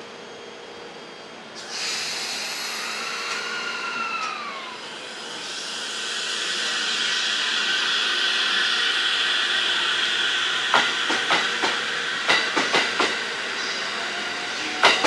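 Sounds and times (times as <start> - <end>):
air hiss: 1.6 - 15.0.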